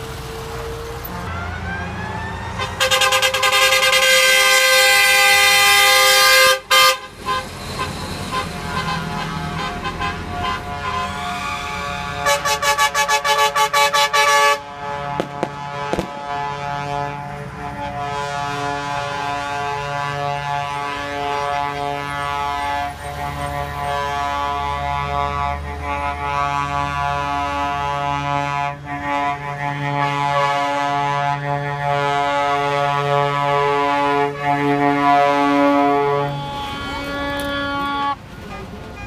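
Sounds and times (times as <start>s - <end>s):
bus horns honking: 0.0s - 39.0s
traffic noise: 0.0s - 39.0s.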